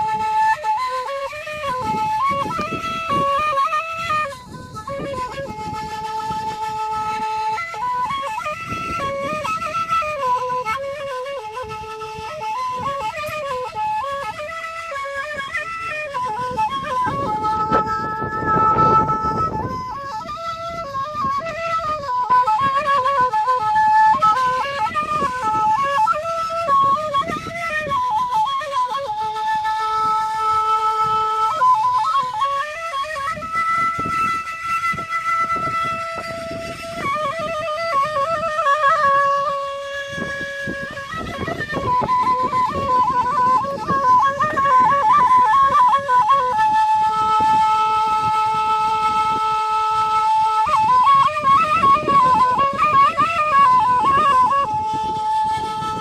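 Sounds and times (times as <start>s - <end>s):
end-blown cane flute melody: 0.0s - 56.0s.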